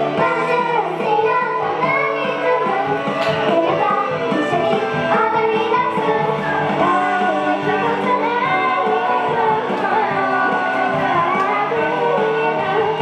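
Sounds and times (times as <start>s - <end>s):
backing music: 0.0s - 13.0s
girls singing into microphones: 0.0s - 13.0s.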